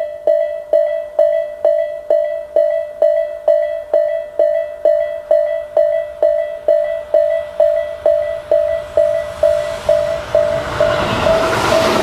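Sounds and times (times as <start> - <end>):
level crossing warning bell: 0.0 - 12.0.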